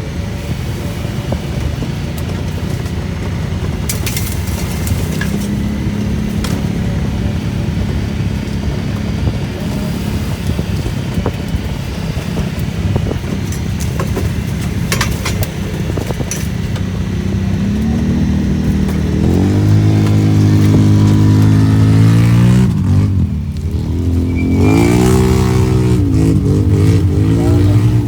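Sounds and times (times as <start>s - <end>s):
off-road vehicle engine under load: 0.0s - 28.0s.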